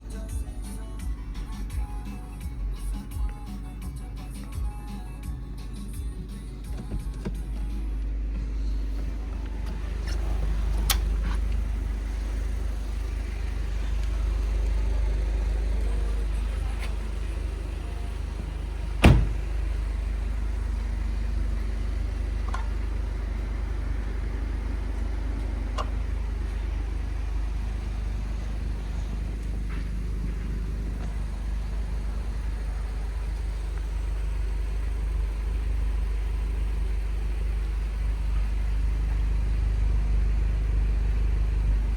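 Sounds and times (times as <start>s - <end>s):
car engine idling rumble: 0.0s - 41.9s.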